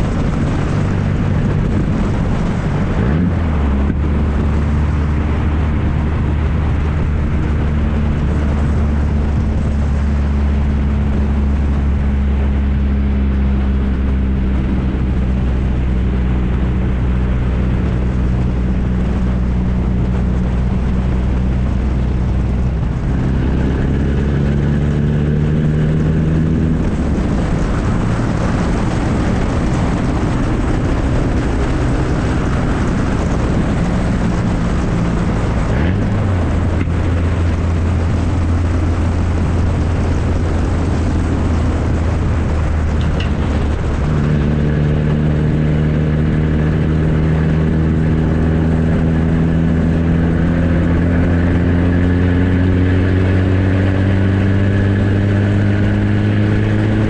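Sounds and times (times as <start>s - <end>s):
loud engine without muffler: 0.0s - 57.0s.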